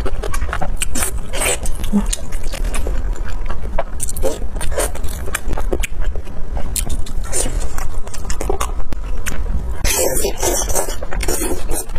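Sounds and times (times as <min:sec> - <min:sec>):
person chewing soft food: 0:00.0 - 0:11.9.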